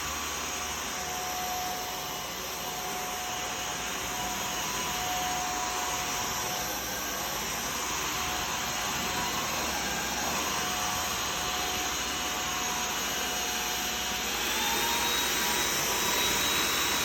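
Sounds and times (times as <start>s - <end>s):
stick vacuum whining: 1.9s - 17.0s.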